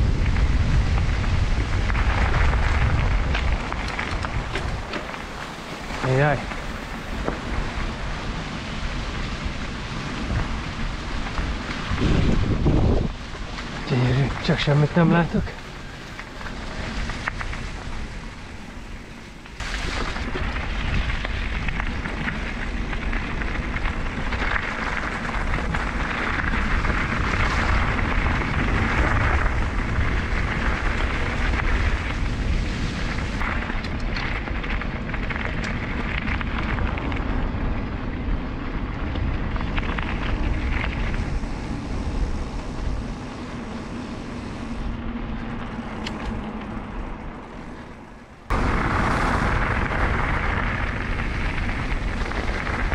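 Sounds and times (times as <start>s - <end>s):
bike rattling: 0.0s - 52.9s
bike tyres rumbling on trail: 0.0s - 52.9s
wind noise on microphone: 0.0s - 52.9s.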